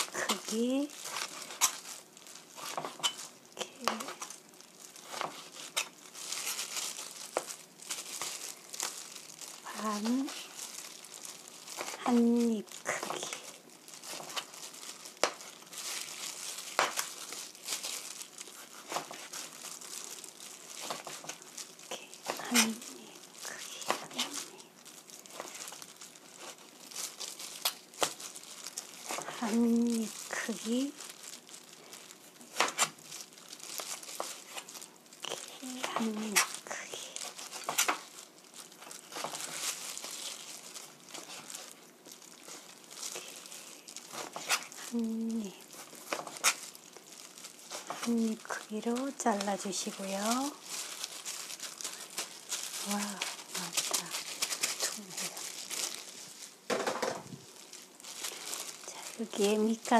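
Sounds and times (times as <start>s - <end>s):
plastic glove crinkling: 0.0s - 59.9s.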